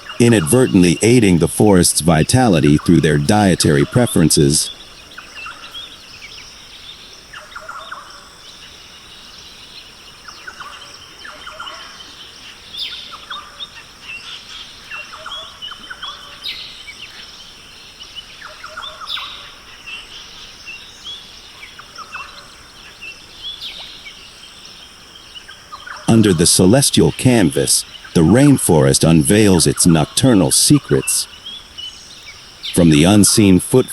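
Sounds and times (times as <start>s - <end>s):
birds chirping and trilling: 0.0s - 33.9s.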